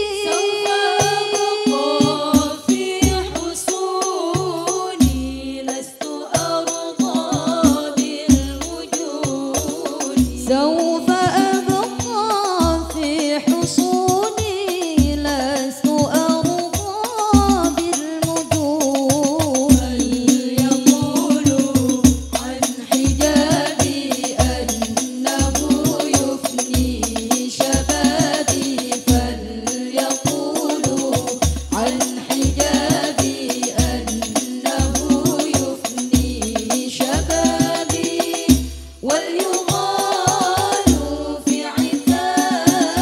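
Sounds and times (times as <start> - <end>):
hand drums: 0.0 - 43.0
women singing together: 0.0 - 43.0.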